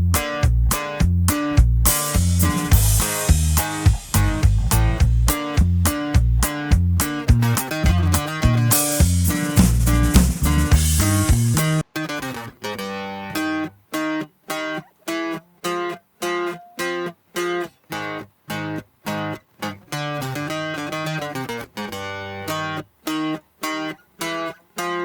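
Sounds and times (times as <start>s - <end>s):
strummed guitar chords: 0.0s - 25.0s.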